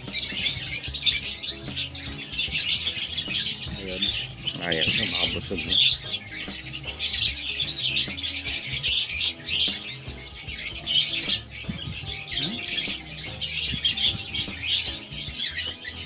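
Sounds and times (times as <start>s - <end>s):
background music: 0.0s - 16.0s
parrot chicks chirping: 0.0s - 16.0s.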